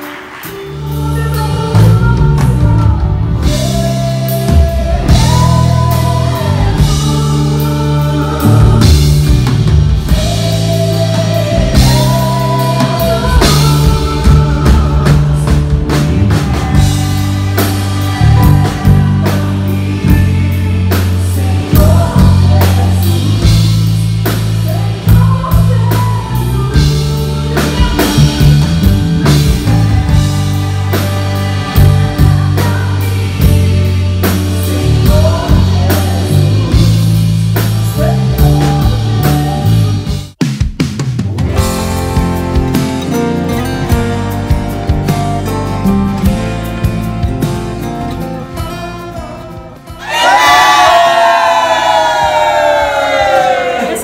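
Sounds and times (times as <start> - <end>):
rock band with lead vocal: 0.0 - 40.4, 41.4 - 54.0.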